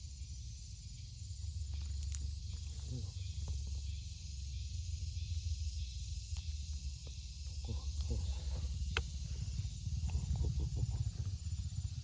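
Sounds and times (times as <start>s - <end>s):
low fluttering rumble: 0.0s - 12.0s.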